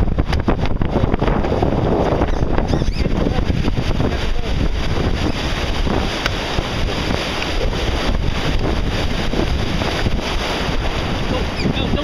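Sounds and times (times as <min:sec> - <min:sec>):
choppy sea and breaking waves: 0:00.0 - 0:12.0
wind buffeting the microphone: 0:00.0 - 0:12.0.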